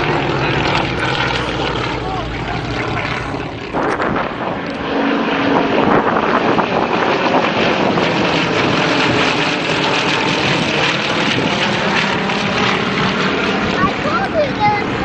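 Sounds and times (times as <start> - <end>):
propeller airplanes droning: 0.0 - 15.0
wind buffeting microphone: 0.0 - 15.0.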